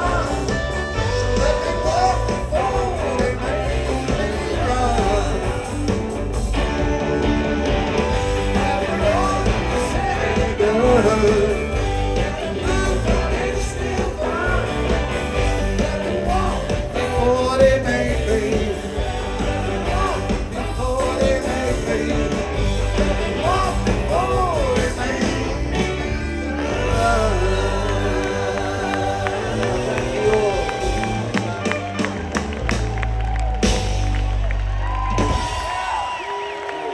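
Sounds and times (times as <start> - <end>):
person singing: 0.0 - 32.1
bass guitar: 0.0 - 36.0
drums: 0.0 - 36.9
electric guitars: 0.0 - 36.9.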